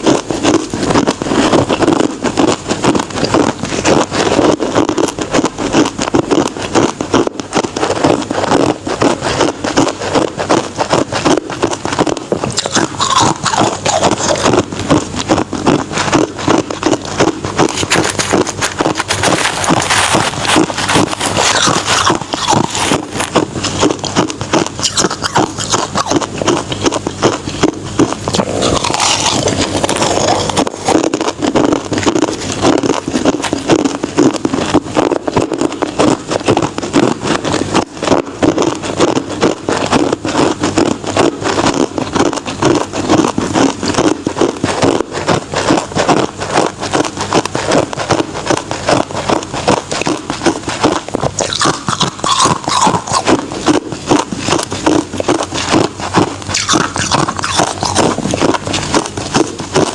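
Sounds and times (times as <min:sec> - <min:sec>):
chewing ice crunching: 0:00.0 - 0:59.9.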